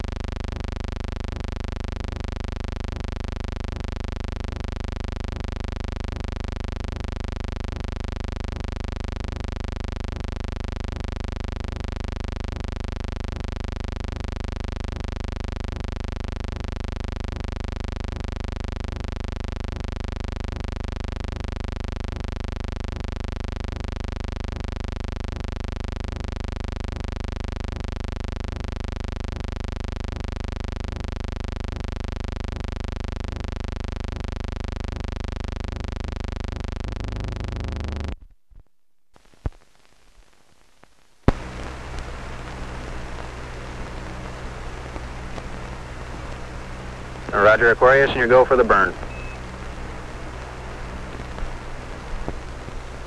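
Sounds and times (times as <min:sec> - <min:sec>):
steady buzzing hum: 0:00.0 - 0:53.0.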